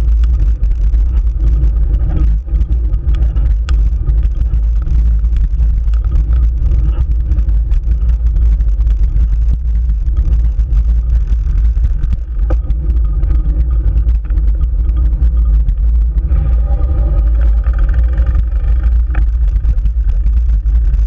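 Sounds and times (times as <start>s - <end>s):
wind and road rumble: 0.0s - 21.0s.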